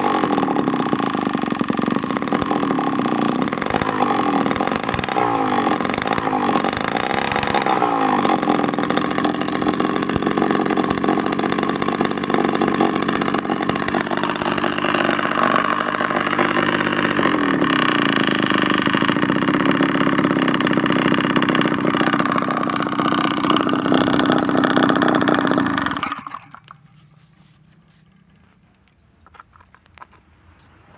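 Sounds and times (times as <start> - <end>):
small two-stroke engine buzzing: 0.0 - 28.5.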